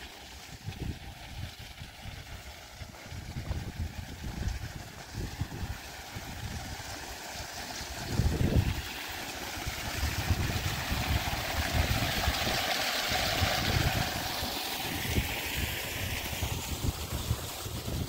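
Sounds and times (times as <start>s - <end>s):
water splashing into a pool: 0.0s - 18.0s
wind buffeting the microphone: 0.4s - 6.8s, 7.8s - 8.9s, 9.6s - 18.0s.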